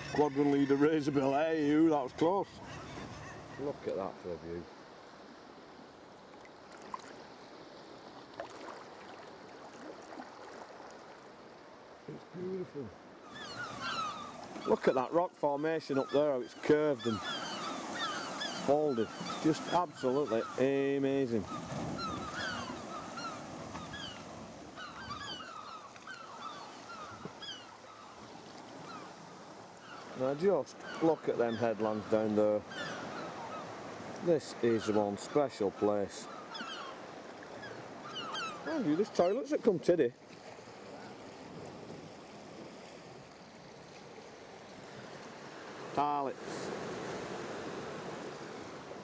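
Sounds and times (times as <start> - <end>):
faint seabird calls: 0.0 - 4.8, 11.0 - 49.0
water lapping against kayak: 0.0 - 49.0.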